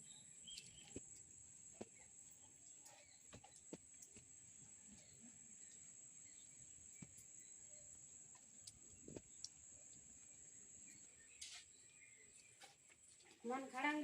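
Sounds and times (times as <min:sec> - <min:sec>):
crickets trilling: 0:00.0 - 0:12.6.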